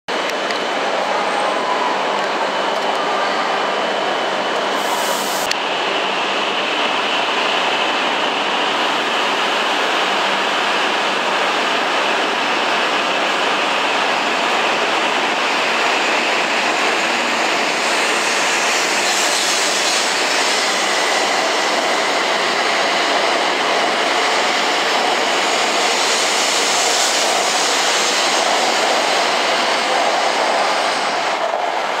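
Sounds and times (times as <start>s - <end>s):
train running past: 0.1s - 32.0s.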